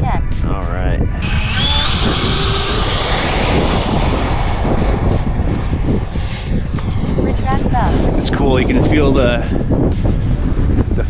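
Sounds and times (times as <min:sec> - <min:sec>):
wind buffeting microphone: 0:00.0 - 0:11.0
electric ducted fan whine: 0:01.2 - 0:11.0.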